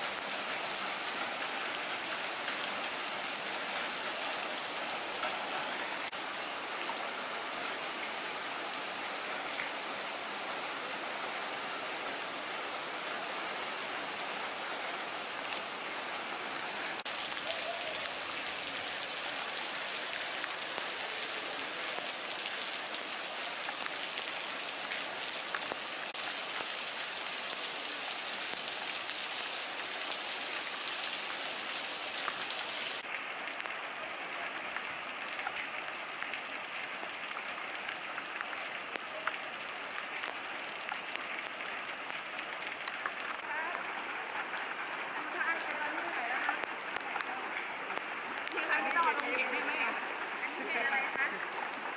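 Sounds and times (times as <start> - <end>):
heavy rain on flooded street: 0.0 - 51.9.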